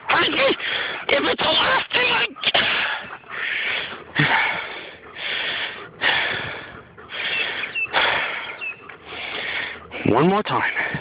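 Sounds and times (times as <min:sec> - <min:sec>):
person breathing hard: 0:00.5 - 0:01.1, 0:02.4 - 0:11.0.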